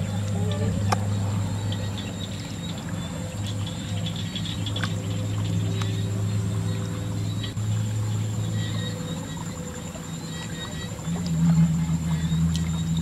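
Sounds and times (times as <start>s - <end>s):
steady low hum: 0.0s - 13.0s
water trickling and splashing: 0.0s - 13.0s.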